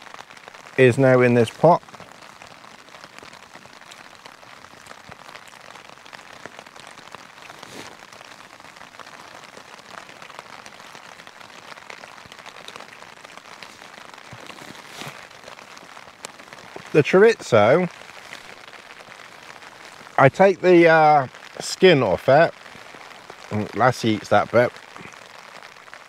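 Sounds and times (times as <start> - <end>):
rain pattering on a tarp: 0.0 - 26.0.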